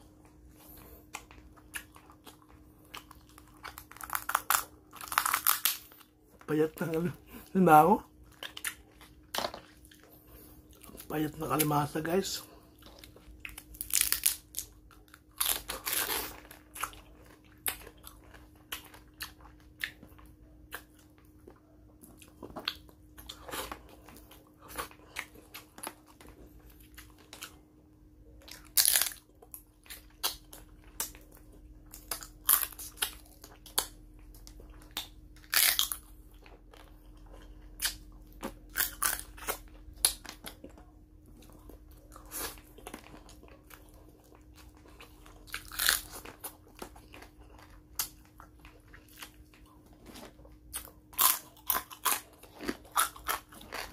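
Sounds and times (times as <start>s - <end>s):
faint steady hum: 0.0s - 53.9s
chewing: 0.1s - 6.5s, 8.2s - 11.1s, 12.4s - 53.9s
crab shell crunching and cracking: 0.2s - 7.1s, 7.8s - 10.1s, 10.7s - 53.9s.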